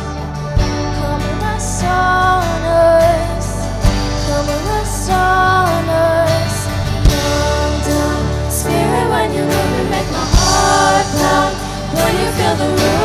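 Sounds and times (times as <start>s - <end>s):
sustained low chords: 0.0s - 13.0s
voices singing worship song: 0.0s - 13.0s.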